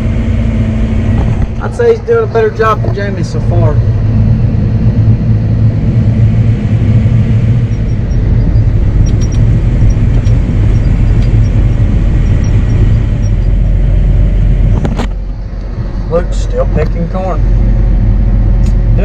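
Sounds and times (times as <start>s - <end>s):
combine diesel engine droning: 0.0s - 19.0s.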